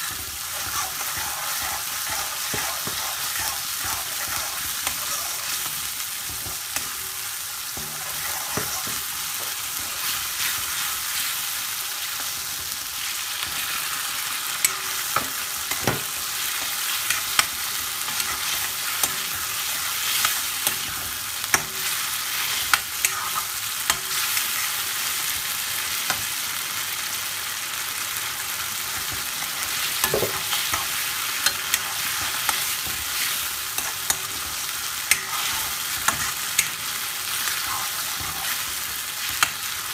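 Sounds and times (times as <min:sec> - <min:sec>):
spoon scraping and knocking pan: 0:00.0 - 0:11.3, 0:14.6 - 0:24.7, 0:29.0 - 0:39.7
curry paste sizzling: 0:00.0 - 0:39.9.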